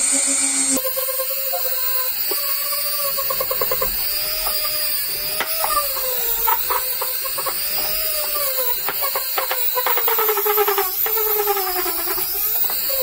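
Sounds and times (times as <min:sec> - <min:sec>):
rotary tool whining: 0:00.0 - 0:13.0.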